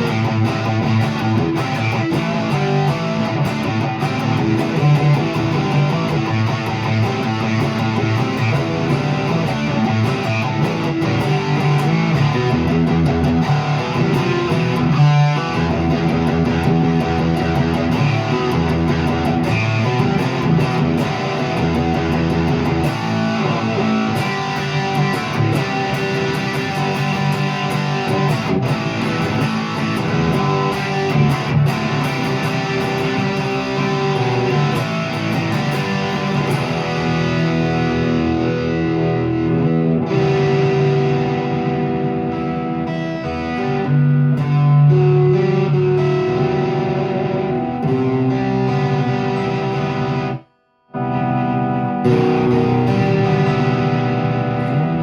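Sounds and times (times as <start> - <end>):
electric guitar notes and chords: 0.0 - 55.0.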